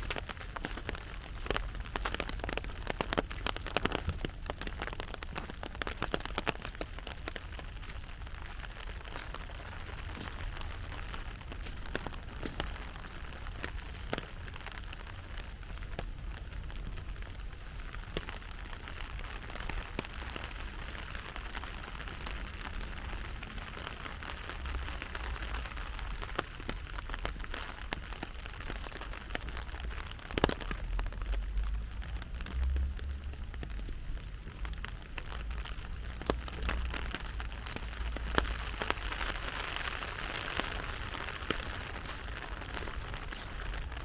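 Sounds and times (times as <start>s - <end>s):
raindrop taps: 0.0s - 44.0s.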